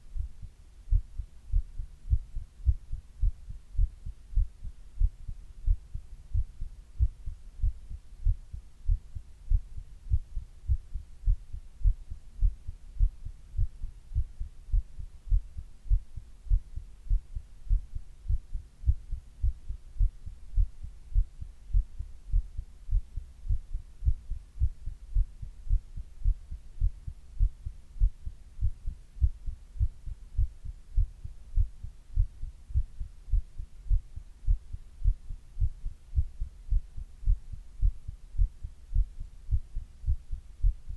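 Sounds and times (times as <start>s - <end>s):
faint steady hum: 0.0s - 40.9s
heartbeat thumps: 0.0s - 40.9s.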